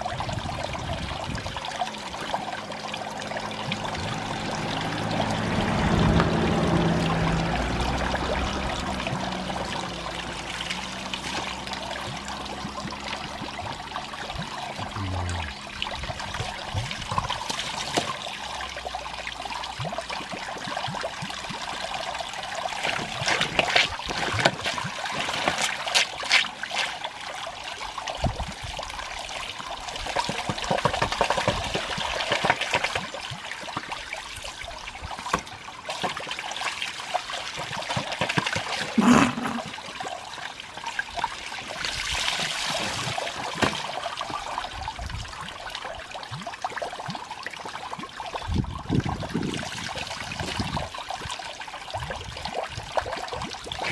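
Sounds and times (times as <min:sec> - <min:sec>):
water splashing from a hose: 0:00.0 - 0:53.9.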